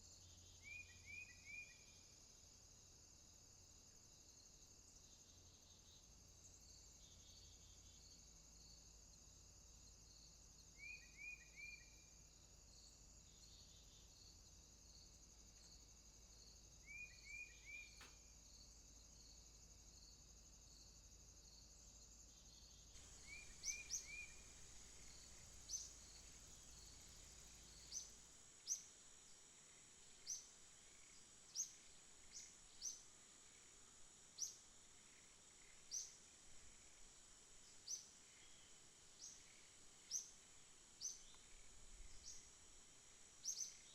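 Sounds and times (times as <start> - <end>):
insect and cricket chorus: 0.0 - 43.9.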